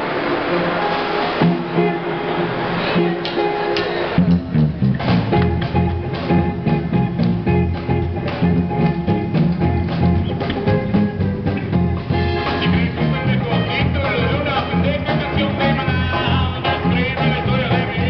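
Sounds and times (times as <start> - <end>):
bass guitar: 0.0 - 18.0
electric guitar: 0.0 - 18.0
drum kit beat: 0.6 - 18.0.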